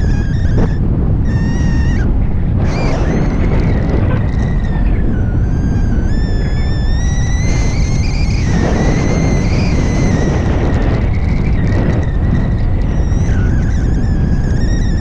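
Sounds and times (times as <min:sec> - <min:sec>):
thin high wavering whistle: 0:00.0 - 0:15.0
wind buffeting microphone: 0:00.0 - 0:15.0.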